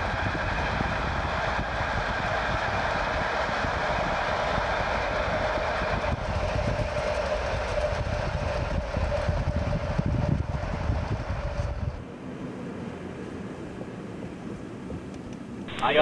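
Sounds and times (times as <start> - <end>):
diesel locomotives running: 0.0 - 16.0
steady whine: 0.0 - 16.0
wind and road rumble: 0.0 - 16.0.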